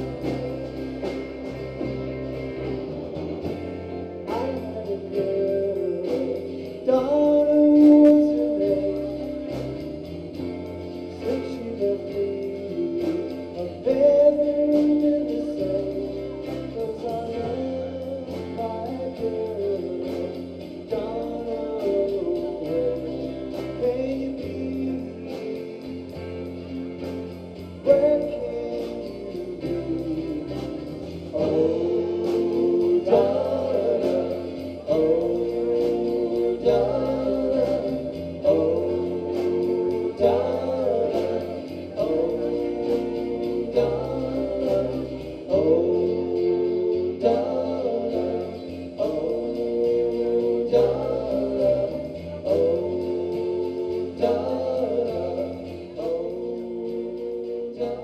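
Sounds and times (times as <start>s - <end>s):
drums: 0.0s - 58.0s
electric guitars: 0.0s - 58.0s
man singing into microphone: 4.2s - 9.8s, 10.9s - 26.4s, 27.8s - 58.0s.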